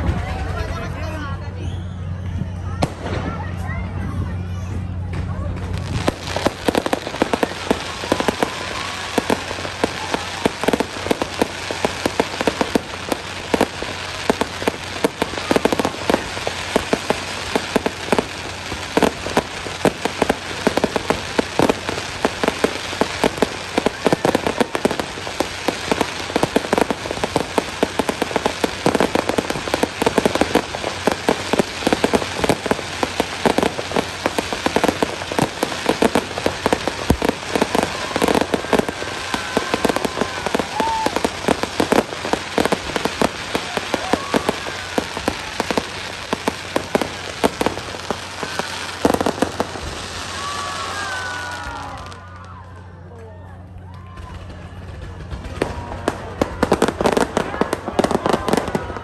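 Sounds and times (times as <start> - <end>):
fireworks crackling: 0.0 - 53.0, 53.6 - 59.0.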